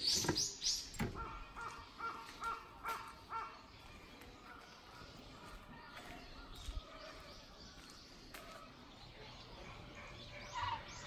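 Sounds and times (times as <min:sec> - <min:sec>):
high bird chirp: 0:00.0 - 0:11.0.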